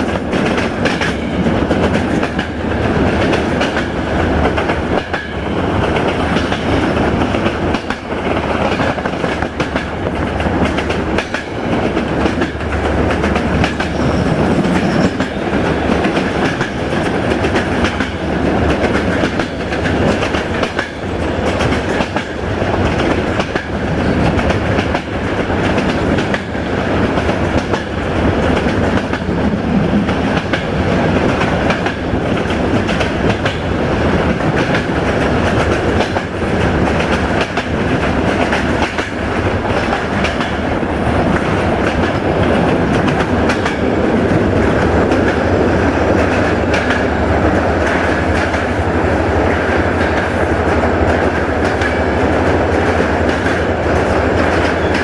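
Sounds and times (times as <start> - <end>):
train rumbling through tunnel: 0.0 - 55.0.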